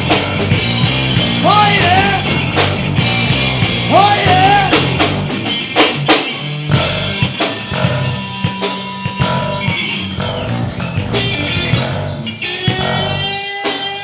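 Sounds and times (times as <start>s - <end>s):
heavy drum hits: 0.0s - 6.0s, 6.7s - 13.4s
live rock band playing: 0.0s - 14.0s.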